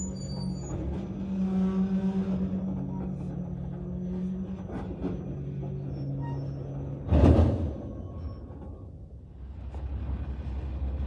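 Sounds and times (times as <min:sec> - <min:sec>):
freight train low drone: 0:00.0 - 0:11.0.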